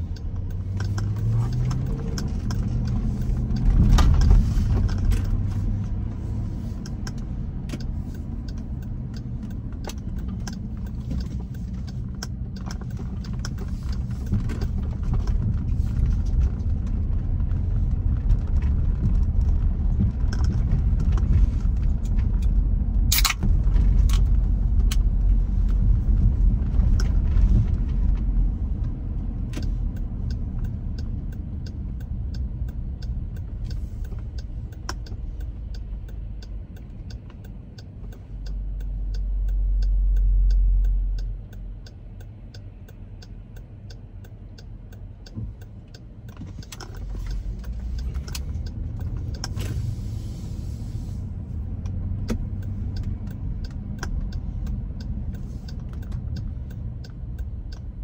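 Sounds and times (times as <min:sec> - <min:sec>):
car road and engine rumble: 0:00.0 - 0:58.0
light ticks and rattles: 0:00.0 - 0:58.0.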